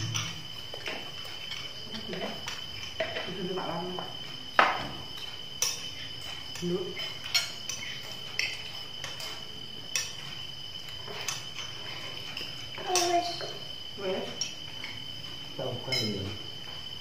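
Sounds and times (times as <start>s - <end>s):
spoons clinking on plates: 0.0s - 16.5s.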